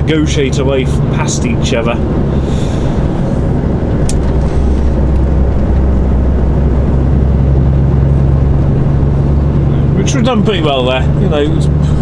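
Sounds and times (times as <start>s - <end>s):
lorry diesel engine cruising: 0.0s - 12.0s
tyre and road noise: 0.0s - 12.0s.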